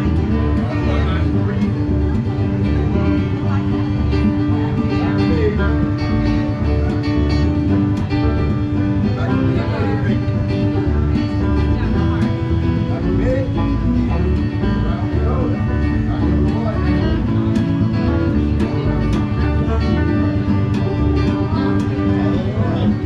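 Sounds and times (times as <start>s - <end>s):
acoustic bluegrass string-band music: 0.0s - 23.0s
plucked guitar: 0.0s - 23.0s.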